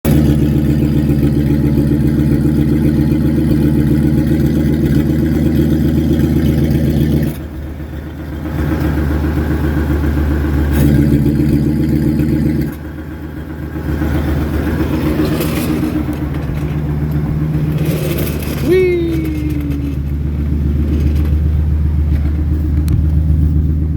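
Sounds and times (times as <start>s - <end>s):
exhaust rumbling: 0.0s - 23.9s.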